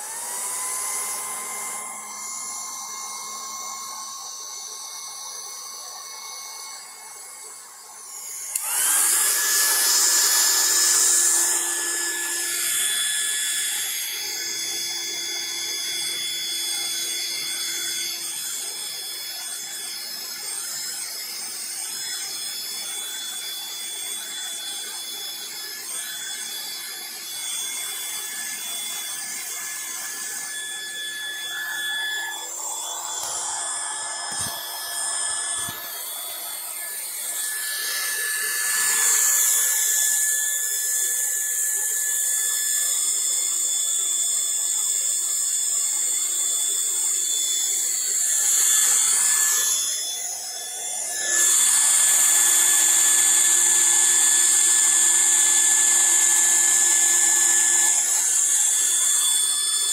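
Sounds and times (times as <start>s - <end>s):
heat gun fan whining: 0.0s - 59.9s.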